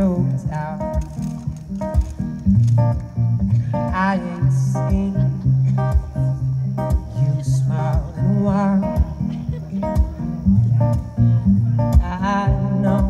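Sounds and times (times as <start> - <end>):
person singing: 0.0 - 1.4, 3.6 - 13.0
live band playing: 0.0 - 13.0.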